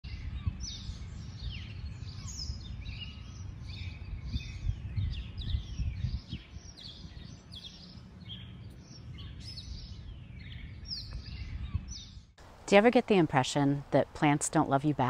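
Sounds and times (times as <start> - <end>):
birds chirping and singing: 0.0 - 12.4.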